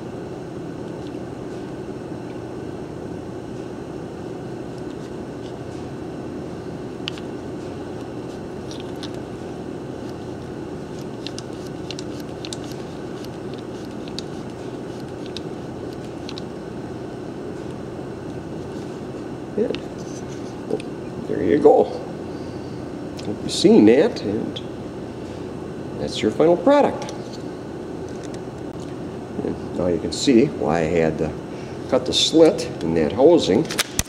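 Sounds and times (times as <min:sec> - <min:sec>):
workshop low hum: 0:00.0 - 0:34.0.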